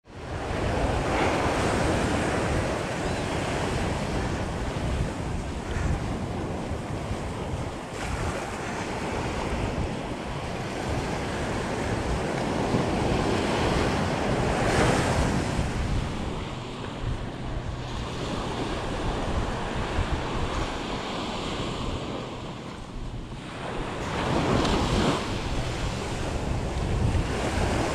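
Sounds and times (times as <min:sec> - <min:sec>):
wind buffeting microphone: 0:00.0 - 0:27.9
waves breaking on shore: 0:00.1 - 0:27.9.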